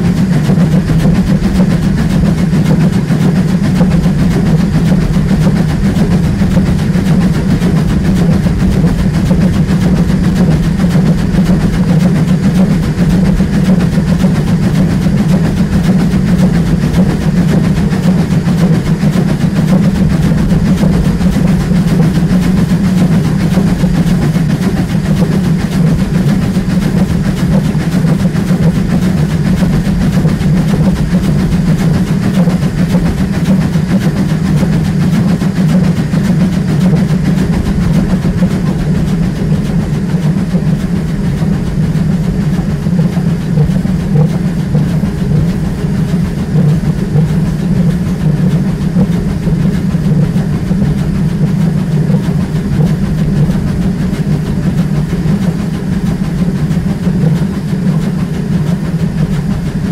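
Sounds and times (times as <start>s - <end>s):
steam locomotive running gear: 0.0s - 59.9s
wheels on rails: 0.0s - 59.9s.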